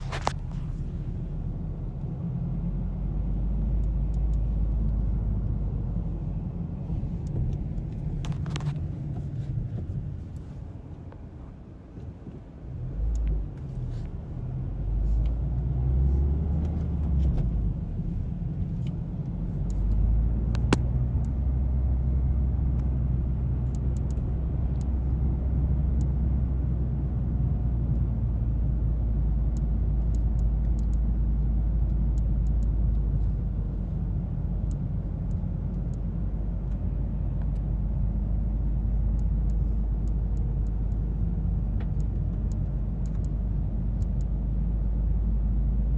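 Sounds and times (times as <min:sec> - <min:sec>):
car driving low rumble: 0:00.0 - 0:45.9.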